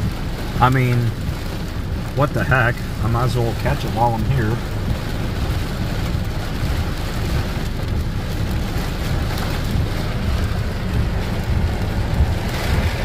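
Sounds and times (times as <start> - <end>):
heavy rain on car roof: 0.0 - 13.0.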